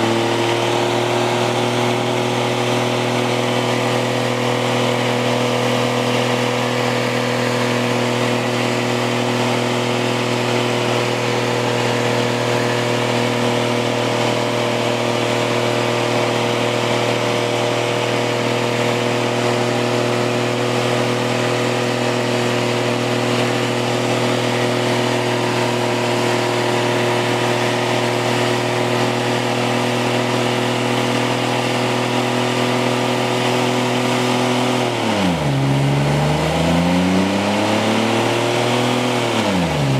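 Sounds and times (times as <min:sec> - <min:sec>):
pickup truck engine revving: 0:00.0 - 0:39.9.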